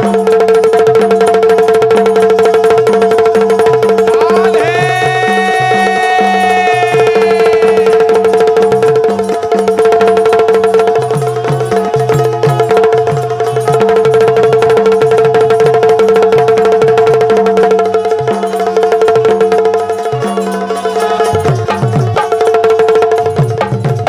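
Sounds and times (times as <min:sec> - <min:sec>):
fast hand-drum rhythm: 0:00.0 - 0:24.0.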